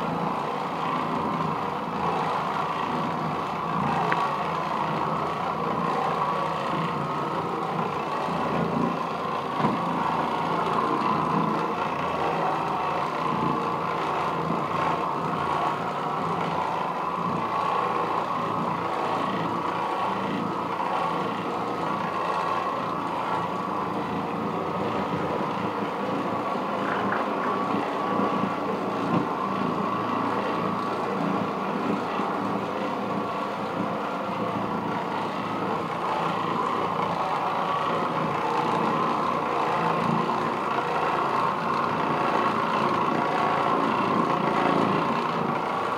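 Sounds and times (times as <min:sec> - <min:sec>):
floor machine scrubbing carpet: 0:00.0 - 0:45.9.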